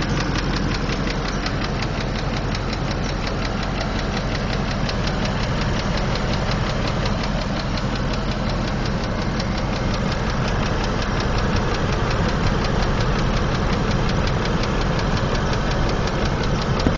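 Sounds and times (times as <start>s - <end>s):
car engine idling with ticking: 0.0s - 16.9s.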